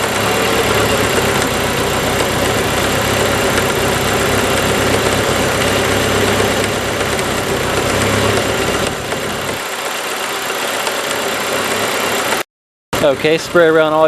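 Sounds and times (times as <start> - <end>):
car engine idling: 0.0 - 12.4, 13.0 - 14.0.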